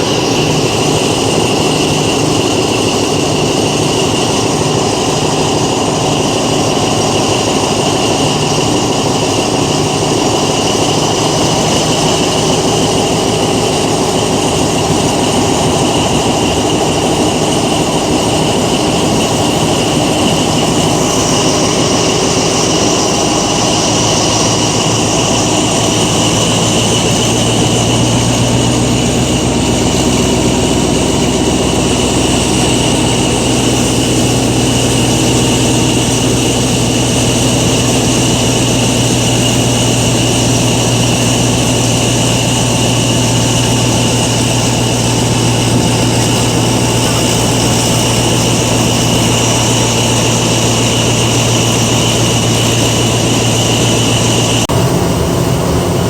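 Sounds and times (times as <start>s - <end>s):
diesel locomotive engine drone: 0.0s - 56.0s
steady high whine: 0.0s - 56.0s.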